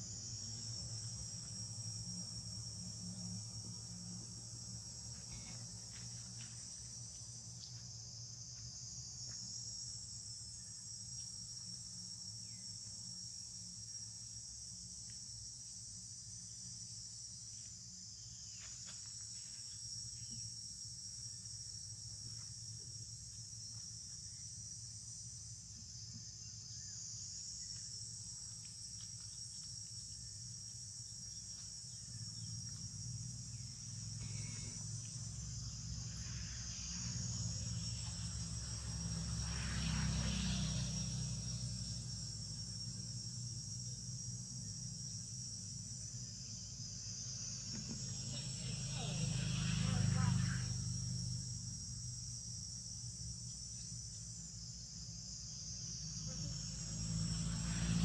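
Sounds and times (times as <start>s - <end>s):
insect chorus shrill drone: 0.0s - 58.0s.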